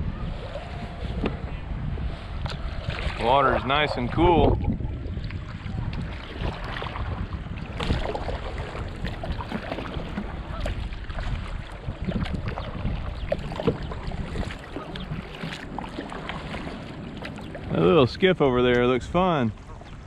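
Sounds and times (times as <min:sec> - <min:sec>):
water splashing around kayak: 0:00.0 - 0:20.0
wind rumble on microphone: 0:00.0 - 0:20.0.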